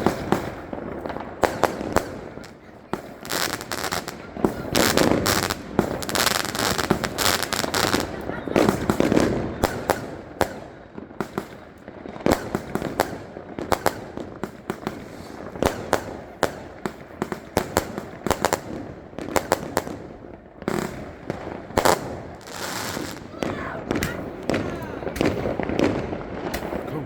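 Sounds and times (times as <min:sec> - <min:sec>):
firecrackers banging: 0:00.0 - 0:27.0.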